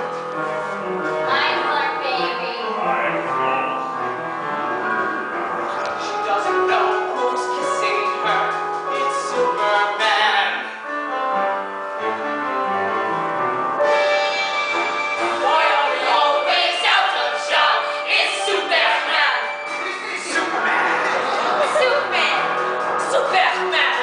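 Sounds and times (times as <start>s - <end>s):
instrumental accompaniment: 0.0s - 24.0s.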